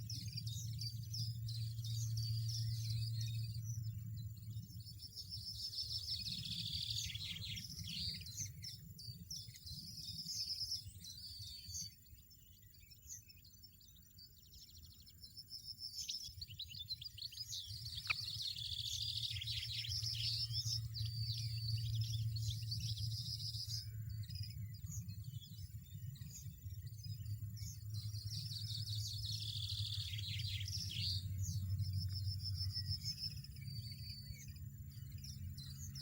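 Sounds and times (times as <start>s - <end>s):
goldfinches twittering and chirping: 0.0s - 36.0s
low steady hum: 0.0s - 36.0s.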